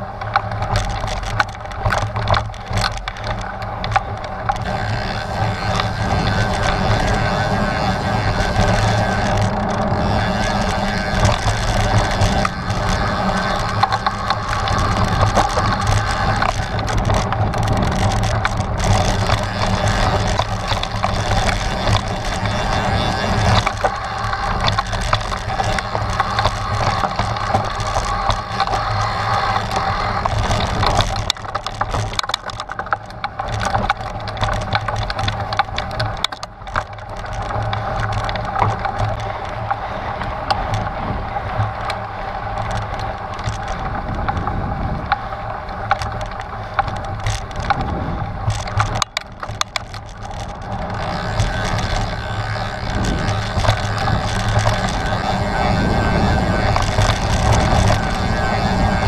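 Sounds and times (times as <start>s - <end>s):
bike knocks and rattles: 0.0s - 59.0s
tyres crunching on gravel: 0.0s - 59.0s.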